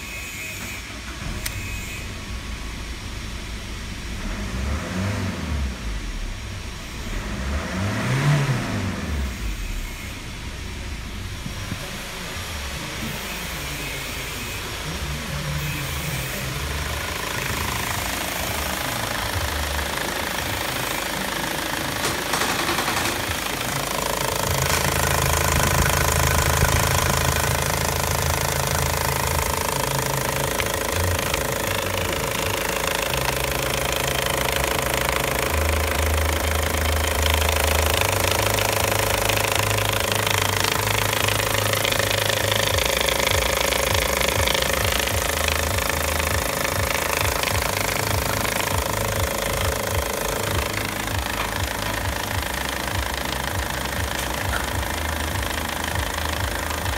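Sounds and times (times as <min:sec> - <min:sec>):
diesel engine running: 0:00.9 - 0:56.9.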